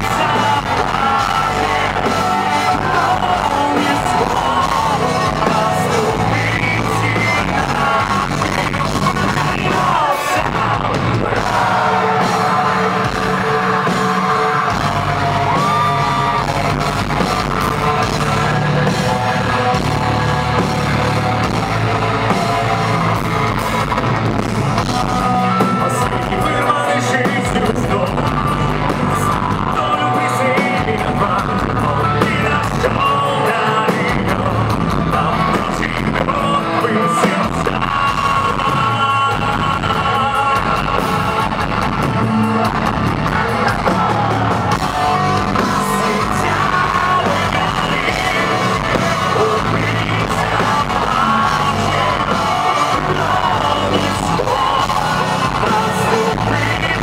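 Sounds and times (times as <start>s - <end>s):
man singing and yelling: 0.0s - 57.0s
metal band playing live: 0.0s - 57.0s.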